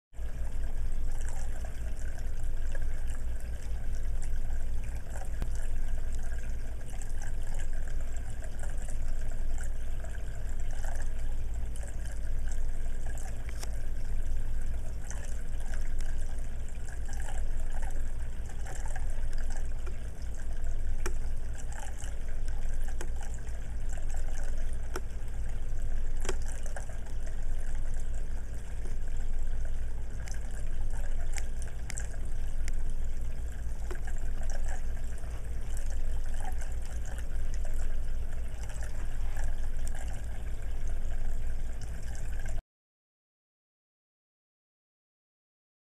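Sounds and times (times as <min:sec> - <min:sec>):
fountain water trickling and splashing: 0:00.2 - 0:42.6
low steady hum: 0:00.2 - 0:42.6.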